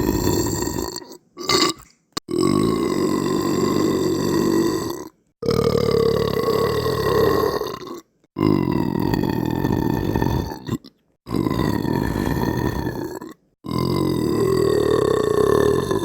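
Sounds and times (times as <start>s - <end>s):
long low belches: 0.0s - 16.0s.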